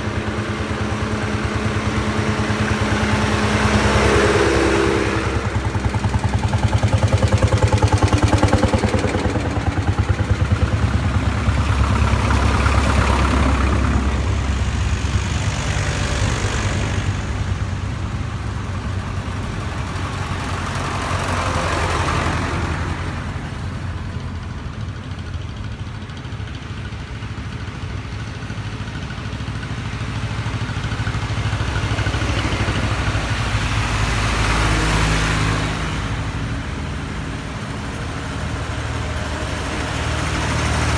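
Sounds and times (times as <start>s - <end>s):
old tractor engines passing: 0.0s - 40.9s.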